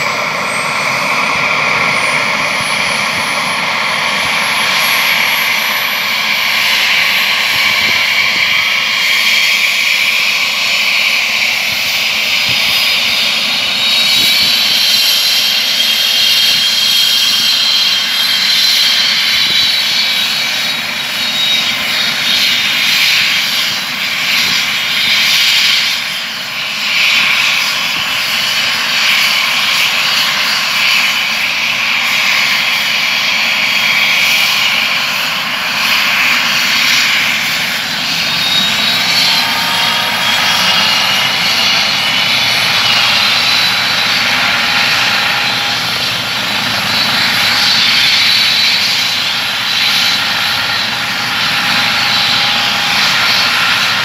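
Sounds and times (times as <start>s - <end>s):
helicopter turbine whine: 0.0s - 54.0s.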